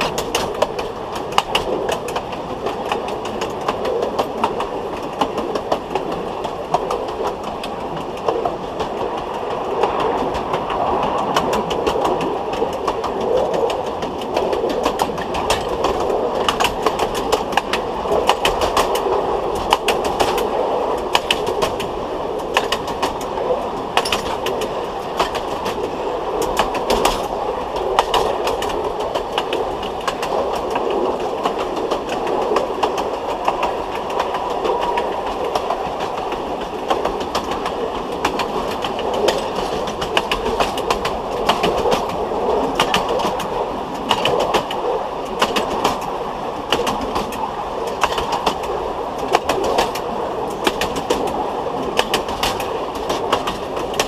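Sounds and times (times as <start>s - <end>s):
train wheels rumbling on track: 0.0s - 54.0s
wheels clicking over rail joints: 0.0s - 54.0s.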